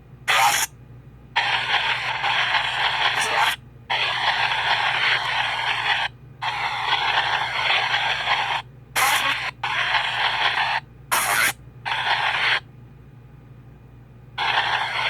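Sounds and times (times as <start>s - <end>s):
radio static and fragments: 0.3s - 0.7s, 1.4s - 12.6s, 14.4s - 15.0s.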